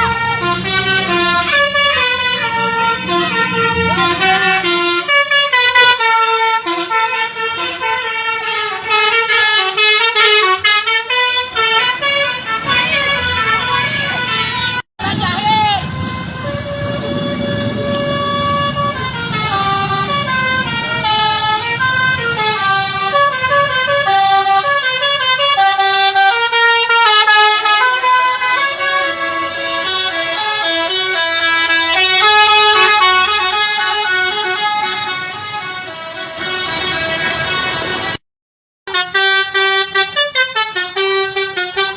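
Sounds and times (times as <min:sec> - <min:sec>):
multi-tone air horn playing a tune: 0:00.0 - 0:14.8, 0:15.8 - 0:38.2, 0:38.9 - 0:41.9
engine rumble: 0:00.0 - 0:38.2.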